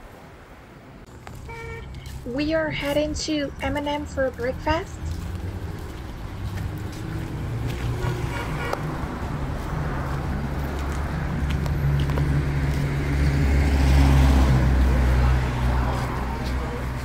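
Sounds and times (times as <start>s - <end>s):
street traffic: 0.0s - 17.0s
vehicle engine humming: 0.8s - 17.0s.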